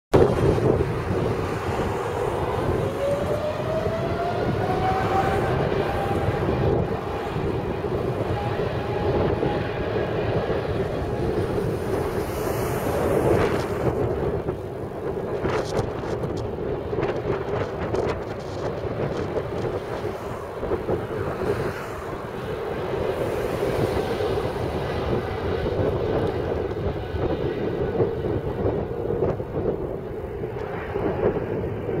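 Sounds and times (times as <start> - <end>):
jet engines at takeoff: 0.1 - 32.0
wind buffeting microphone: 0.1 - 32.0.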